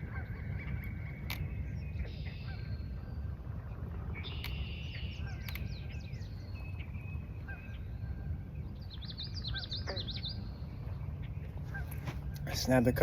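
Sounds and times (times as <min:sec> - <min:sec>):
low background rumble: 0:00.0 - 0:13.0
marsh birds calling: 0:00.0 - 0:13.0.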